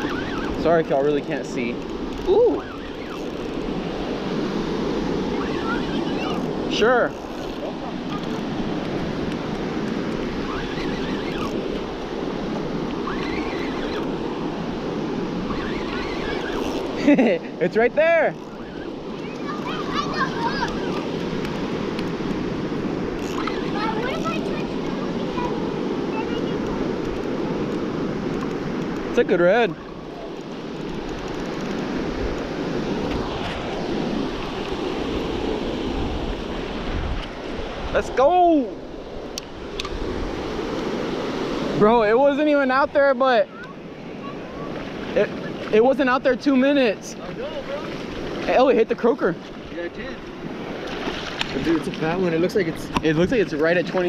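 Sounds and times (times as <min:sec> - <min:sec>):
wind rumbling on microphone: 0:00.0 - 0:17.1, 0:18.0 - 0:54.0
surf breaking on beach: 0:00.0 - 0:54.0.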